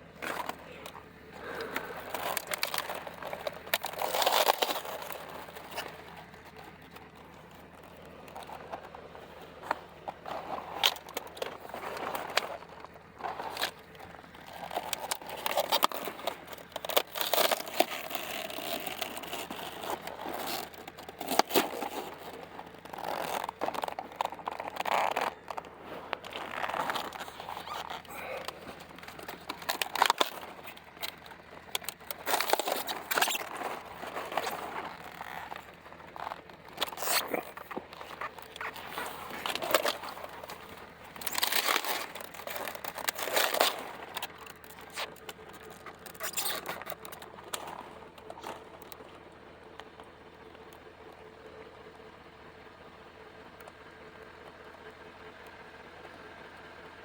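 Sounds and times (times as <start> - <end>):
cabbage leaves squeaking and crunching: 0.0 - 49.6.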